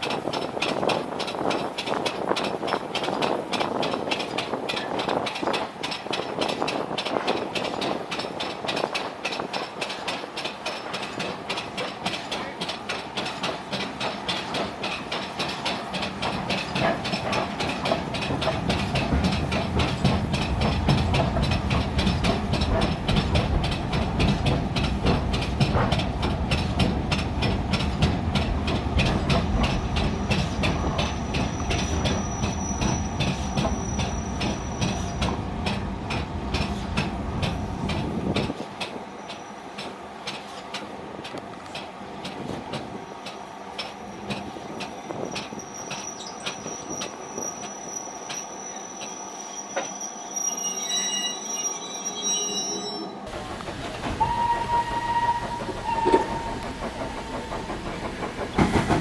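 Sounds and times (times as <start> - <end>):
steam train running: 0.0 - 59.0.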